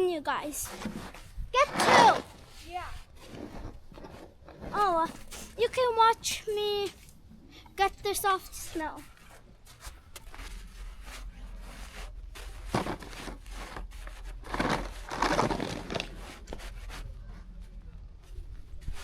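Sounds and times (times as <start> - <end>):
snow crunching and scraping: 0.1 - 7.1, 8.0 - 17.6.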